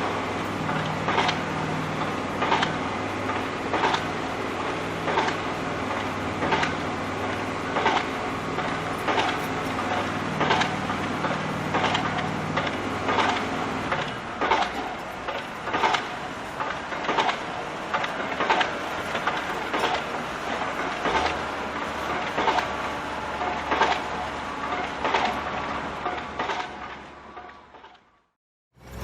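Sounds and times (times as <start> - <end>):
low machine hum: 0.0 - 27.8
rhythmic mechanical clatter: 0.0 - 29.0.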